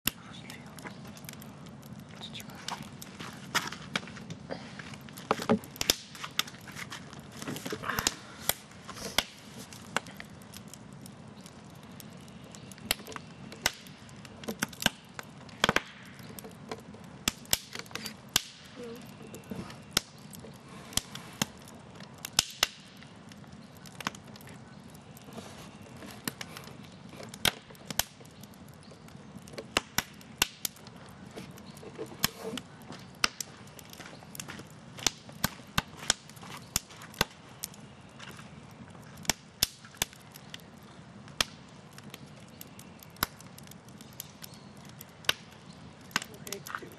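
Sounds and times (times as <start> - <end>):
campfire crackling and popping: 0.0 - 46.9
low fire hiss: 0.0 - 46.9.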